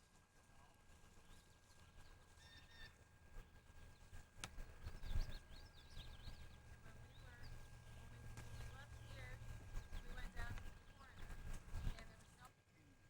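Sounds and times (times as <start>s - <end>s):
birds chirping: 1.1s - 12.5s.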